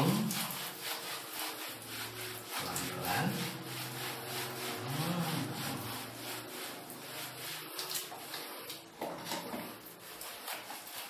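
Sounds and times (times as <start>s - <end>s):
hand rubbing soapy dog fur: 0.0s - 11.0s.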